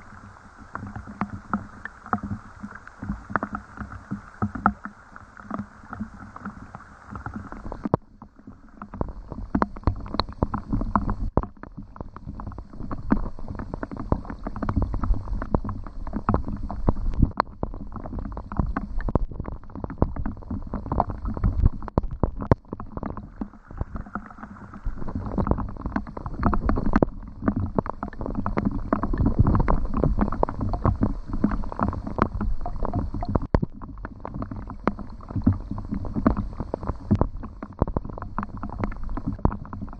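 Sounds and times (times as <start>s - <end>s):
water splashing and lapping: 0.0s - 39.9s.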